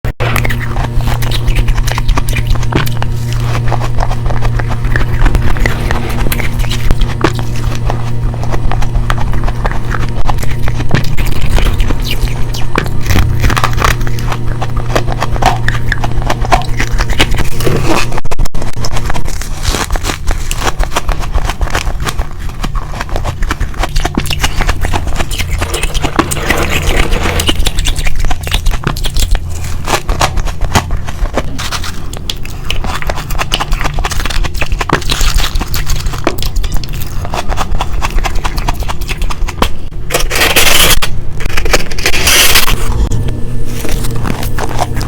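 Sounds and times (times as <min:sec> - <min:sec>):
chewing frost crunching: 0:00.1 - 0:45.0.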